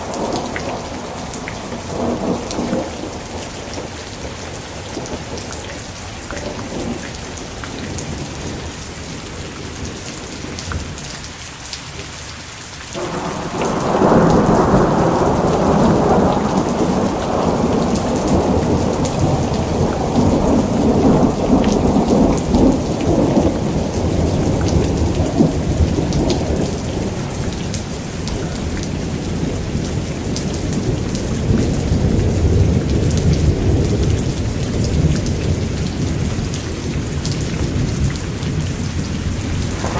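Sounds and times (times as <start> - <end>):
rolling thunder: 0.0 - 5.6, 13.0 - 39.9
steady rain: 0.0 - 39.9.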